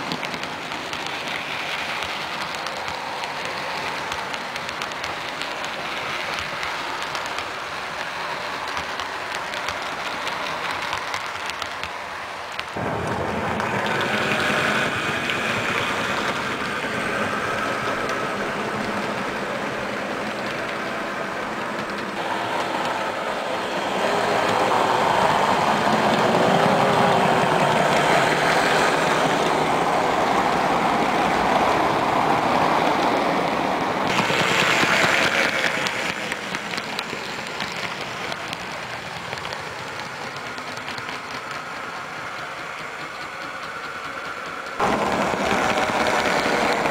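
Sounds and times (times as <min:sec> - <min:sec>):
model trains running on track: 0:00.0 - 0:46.9.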